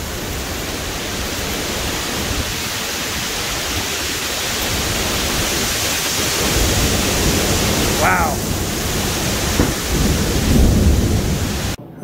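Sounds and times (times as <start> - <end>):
heavy rain: 0.0 - 11.9
strong wind through trees: 0.0 - 12.0.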